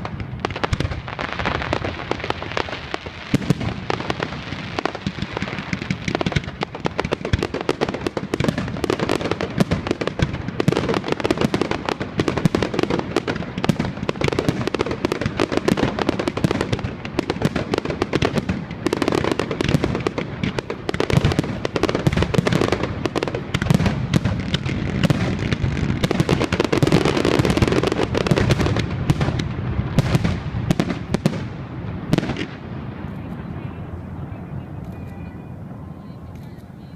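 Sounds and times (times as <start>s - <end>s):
fireworks bangs and crackling: 0.0s - 36.9s
heavy fireworks booms: 0.0s - 36.9s.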